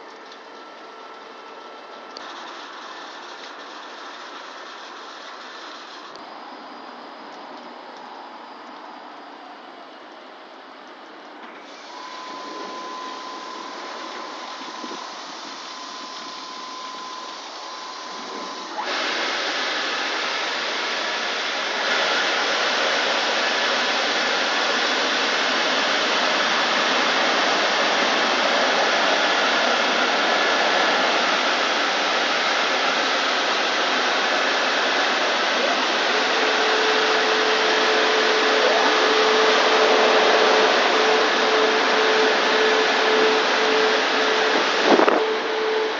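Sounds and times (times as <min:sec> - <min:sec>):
car wash dryer blowers rushing: 0:00.0 - 0:09.9, 0:11.4 - 0:45.9
faint whine: 0:00.0 - 0:45.9.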